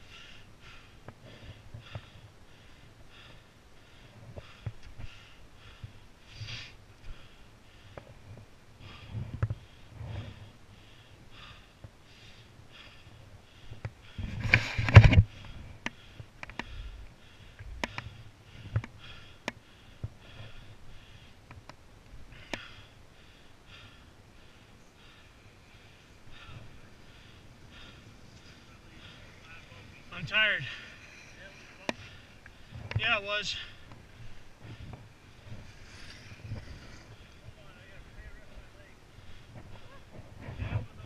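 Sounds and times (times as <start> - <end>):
heavy breathing: 0.0 - 41.0.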